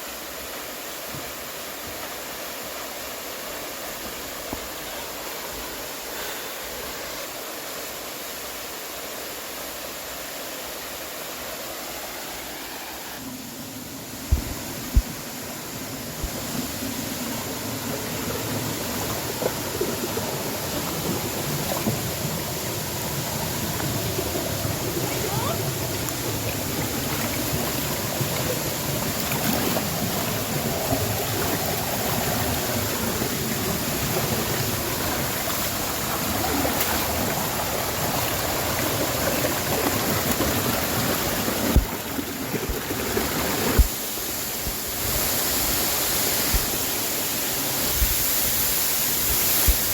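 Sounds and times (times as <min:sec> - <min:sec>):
river and waterfall rushing: 0:00.0 - 0:49.9.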